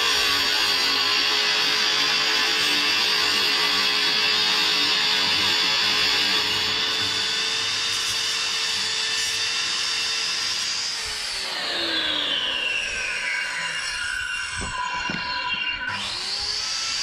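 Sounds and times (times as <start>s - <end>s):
angle grinder cutting brick: 0.0s - 17.0s.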